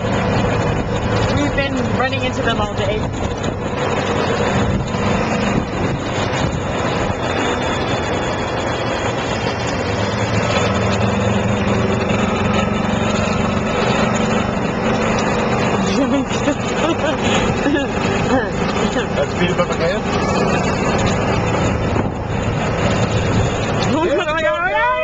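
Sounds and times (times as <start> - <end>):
golf cart motor humming: 0.0 - 25.0
road noise: 0.0 - 25.0.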